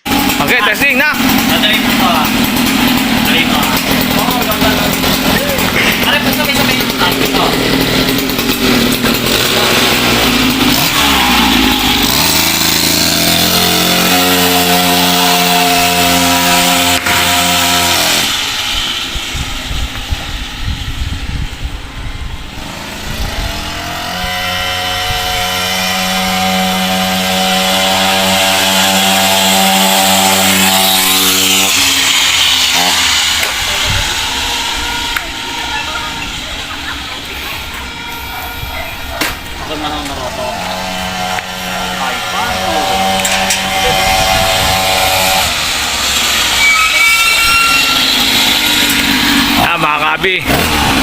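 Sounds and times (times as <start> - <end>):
scooter engine revving: 0.0 - 51.0.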